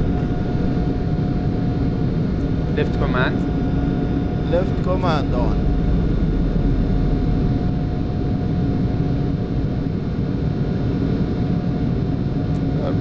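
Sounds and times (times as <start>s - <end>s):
faint steady whine: 0.0s - 13.0s
steady rushing noise in cockpit: 0.0s - 13.0s.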